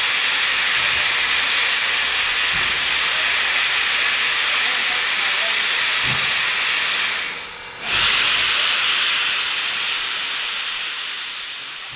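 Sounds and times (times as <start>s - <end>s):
steam locomotive venting steam: 0.0s - 11.9s.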